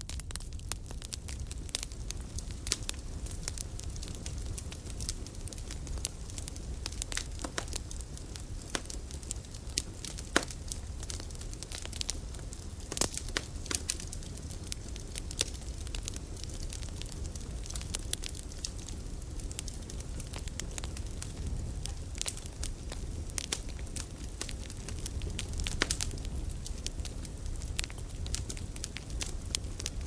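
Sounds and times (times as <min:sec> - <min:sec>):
campfire crackling and popping: 0:00.0 - 0:30.0
low fire rumble: 0:00.0 - 0:30.0.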